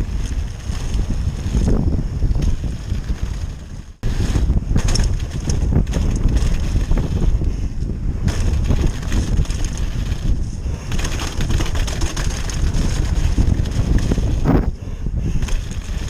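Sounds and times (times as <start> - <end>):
tyre rumble on dirt: 0.0 - 7.4, 8.2 - 14.7
bike knocks and rattles: 0.0 - 16.0
wind buffeting microphone: 0.0 - 16.0.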